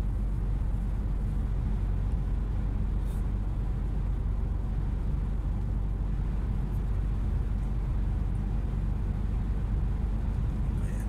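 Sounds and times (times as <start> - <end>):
vehicle engine and tyre drone: 0.0 - 11.0.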